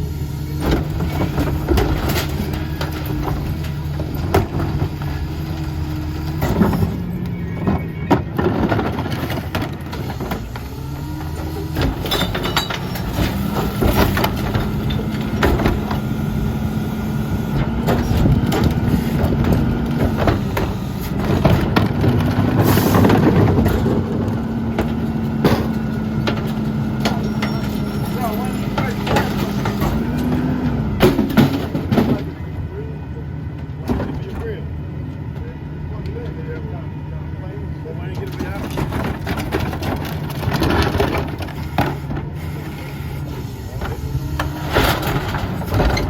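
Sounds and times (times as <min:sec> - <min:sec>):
garbage truck diesel engine: 0:00.0 - 0:46.0
metal and trash clanking: 0:00.5 - 0:32.8, 0:33.6 - 0:34.7, 0:38.0 - 0:42.7, 0:43.3 - 0:46.0.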